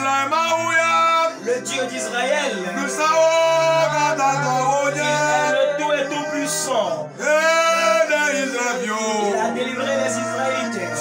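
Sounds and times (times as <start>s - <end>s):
instrumental backing: 0.0s - 11.0s
man singing: 0.0s - 11.0s.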